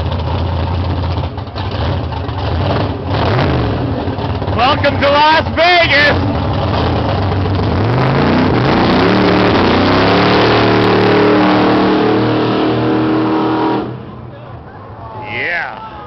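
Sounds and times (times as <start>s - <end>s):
car engine accelerating hard: 0.0s - 14.4s.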